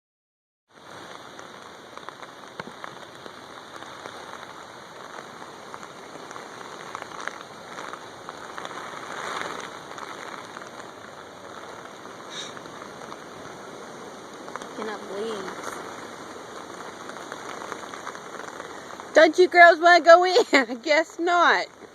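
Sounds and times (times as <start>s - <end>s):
steady rain falling: 0.7s - 21.9s.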